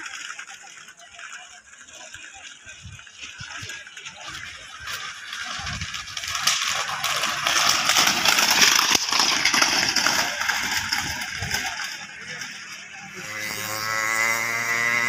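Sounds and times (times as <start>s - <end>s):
hooves and cart clattering: 0.0s - 15.0s.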